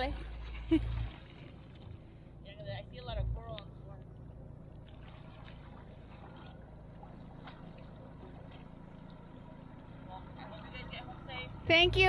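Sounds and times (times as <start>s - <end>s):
boat engine idling: 0.0s - 12.0s
water lapping against hull: 0.0s - 12.0s.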